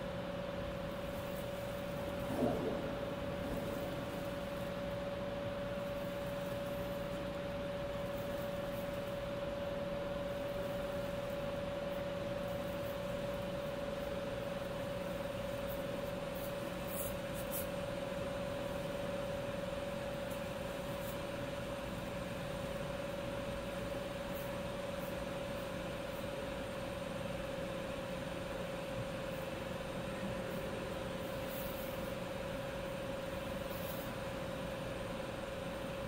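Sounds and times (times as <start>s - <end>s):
ventilation air rush: 0.0s - 36.0s.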